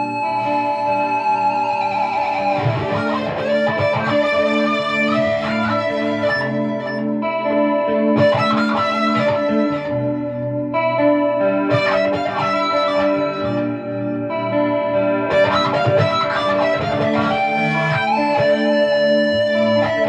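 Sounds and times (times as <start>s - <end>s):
distorted electric guitar blues lead: 0.0s - 20.0s
repeating backing accompaniment: 2.4s - 20.0s.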